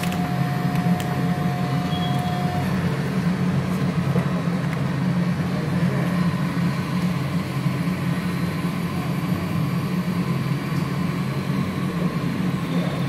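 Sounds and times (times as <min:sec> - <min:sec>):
machine motor hum: 0:00.0 - 0:13.0
thin whine: 0:00.0 - 0:13.0.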